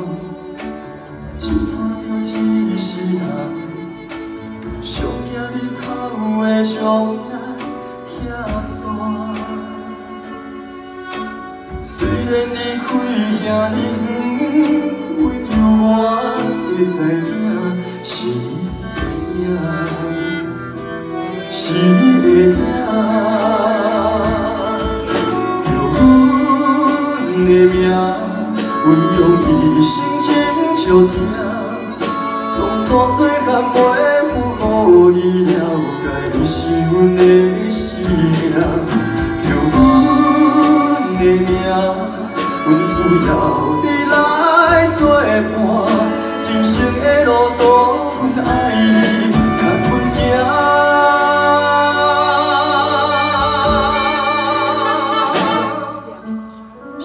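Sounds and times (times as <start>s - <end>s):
man singing ballad into microphone: 0.0s - 10.4s, 11.2s - 57.0s
keyboard violins cello and drums: 0.0s - 57.0s.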